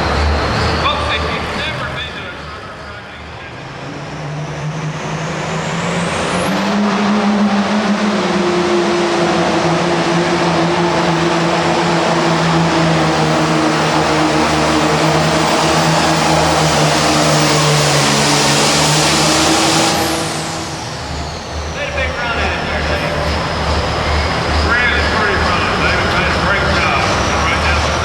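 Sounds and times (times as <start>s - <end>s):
tractor engine at high rpm: 0.0s - 28.0s.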